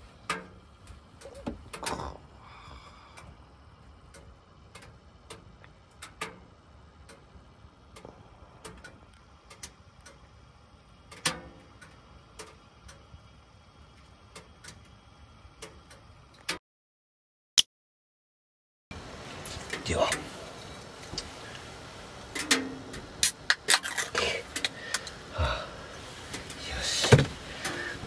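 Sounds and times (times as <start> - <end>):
low steady background noise: 0.0 - 16.5, 18.9 - 28.0
firewood crackling and popping: 0.0 - 16.6, 19.0 - 28.0.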